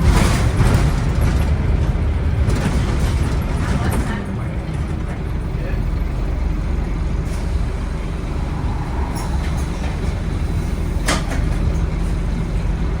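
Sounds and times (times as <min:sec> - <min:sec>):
diesel bus engine rumbling: 0:00.0 - 0:13.0.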